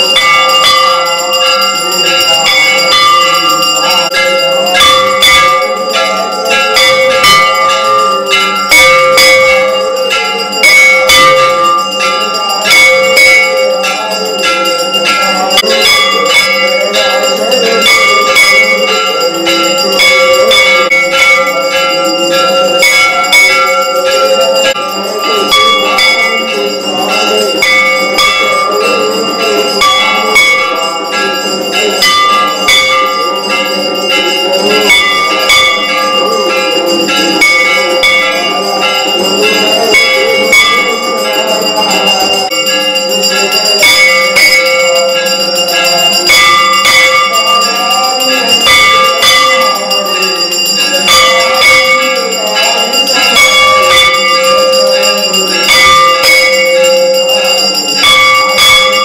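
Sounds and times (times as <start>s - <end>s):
temple bells ringing rapidly: 0.0s - 59.0s.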